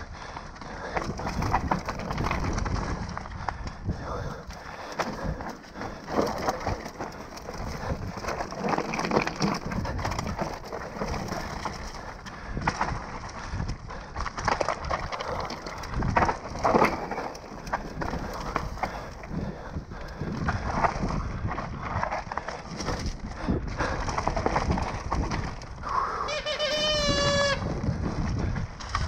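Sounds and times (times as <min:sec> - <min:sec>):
bike tyres rolling over leaves: 0:00.0 - 0:29.0
bike knocks and rattles: 0:00.8 - 0:03.7, 0:04.8 - 0:26.0.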